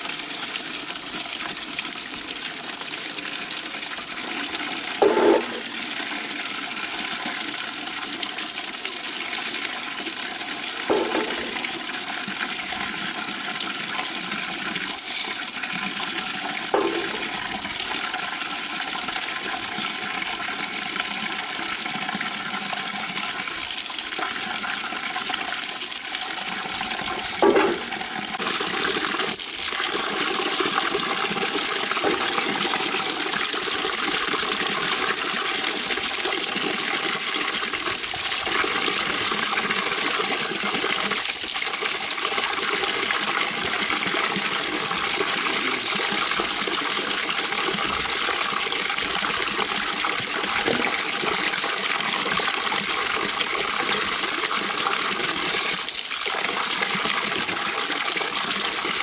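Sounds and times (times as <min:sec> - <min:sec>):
water pouring into plastic bucket: 0:00.0 - 0:59.0.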